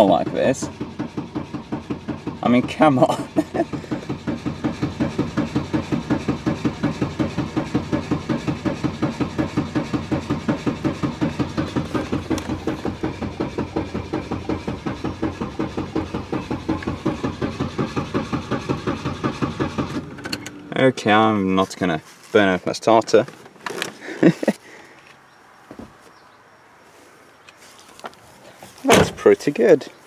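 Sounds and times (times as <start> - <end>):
starter motor cranking engine: 0.0 - 24.6.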